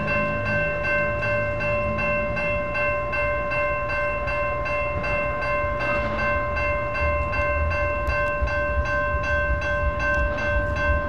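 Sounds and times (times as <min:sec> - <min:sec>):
crossing bell ringing: 0:00.0 - 0:11.0.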